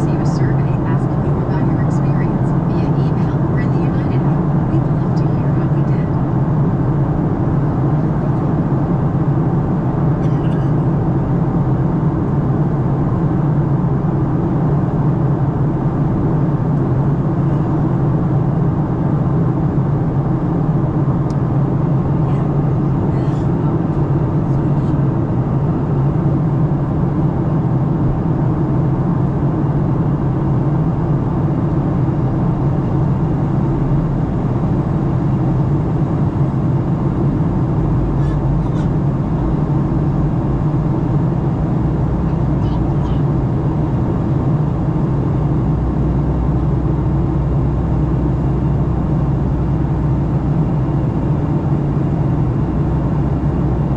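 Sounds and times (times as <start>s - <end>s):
airplane cabin engine drone: 0.0s - 53.9s.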